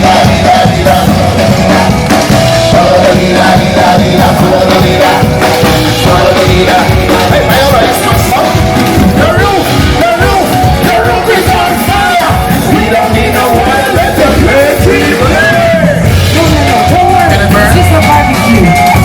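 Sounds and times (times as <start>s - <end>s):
upbeat dance music with singing: 0.0s - 19.0s.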